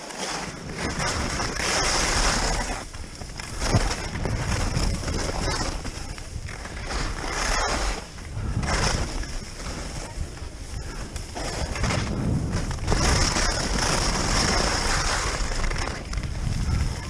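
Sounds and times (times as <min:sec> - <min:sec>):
skis scraping over packed snow: 0:00.0 - 0:17.0
wind rumble on microphone: 0:00.4 - 0:17.0.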